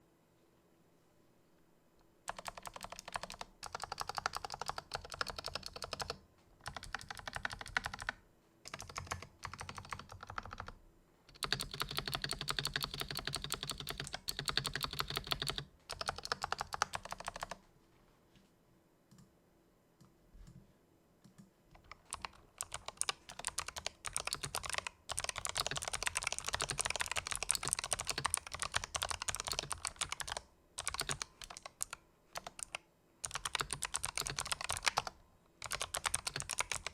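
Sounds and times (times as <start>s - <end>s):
clicky keyboard typing: 2.3s - 17.6s, 19.1s - 19.3s, 21.2s - 36.9s.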